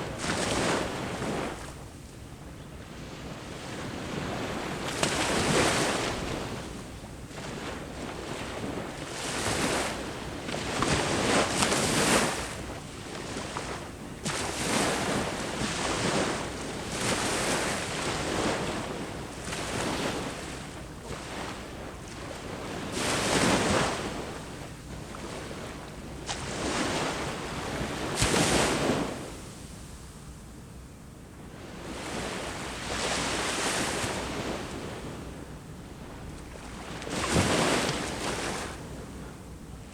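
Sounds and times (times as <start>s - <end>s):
sea waves breaking on shore: 0.0s - 2.0s, 2.9s - 30.1s, 31.6s - 39.9s.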